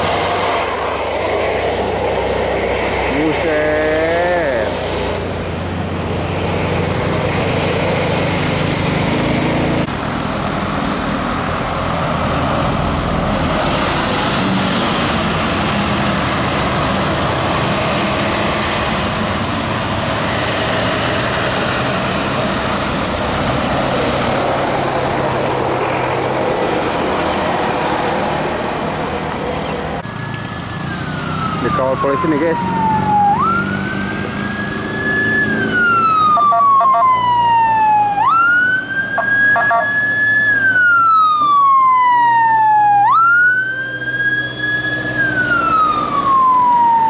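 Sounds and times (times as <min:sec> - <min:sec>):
bus diesel engine: 0:00.0 - 0:47.0
car and motorcycle engines: 0:00.0 - 0:47.0.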